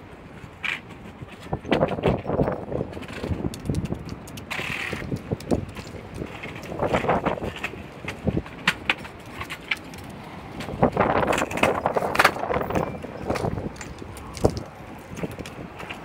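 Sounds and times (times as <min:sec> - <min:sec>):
scooter clicks and rattles: 0:00.0 - 0:16.0
scooter wheels rolling on concrete: 0:00.0 - 0:16.0.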